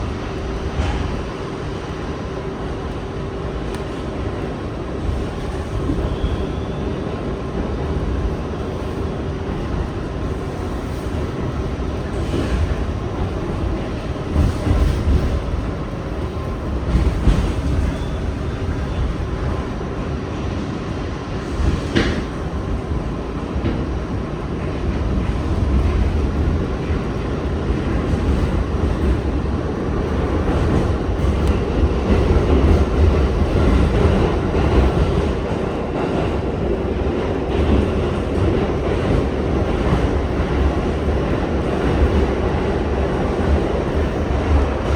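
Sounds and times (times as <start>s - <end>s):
subway train rumbling on rails: 0.0s - 44.9s.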